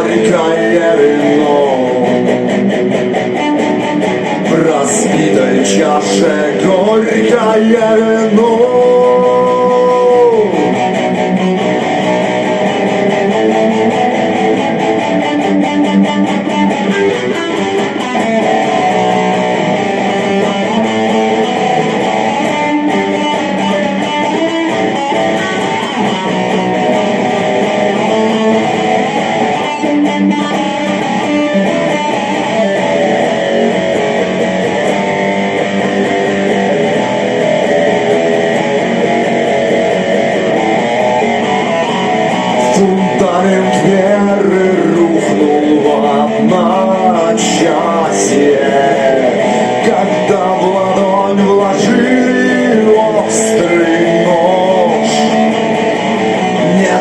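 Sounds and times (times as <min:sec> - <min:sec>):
rock band with electric guitar: 0:00.0 - 0:57.0.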